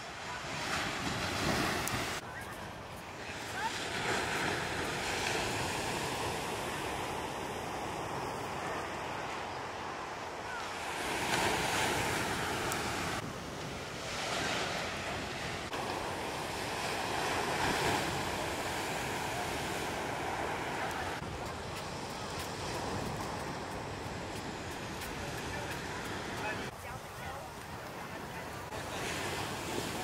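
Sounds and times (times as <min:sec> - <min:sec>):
waves breaking on beach: 0:00.0 - 0:30.0.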